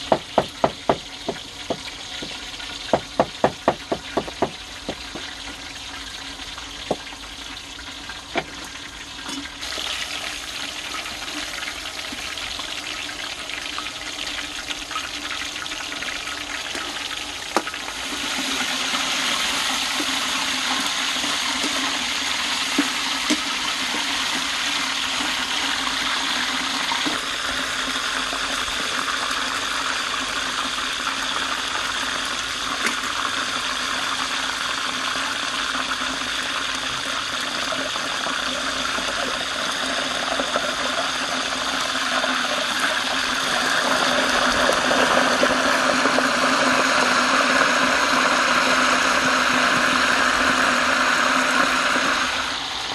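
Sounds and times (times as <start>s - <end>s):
chicken sizzling in hot oil: 0.0s - 52.9s.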